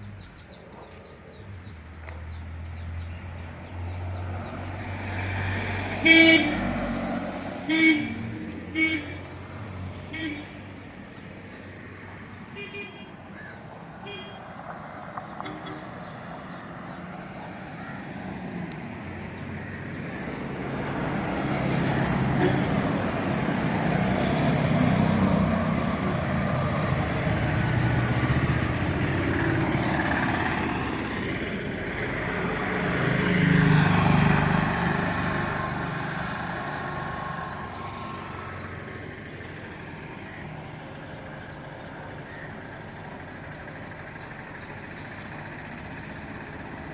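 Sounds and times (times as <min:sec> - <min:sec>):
road noise: 0:00.0 - 0:46.9
vehicle engines passing: 0:00.0 - 0:46.9.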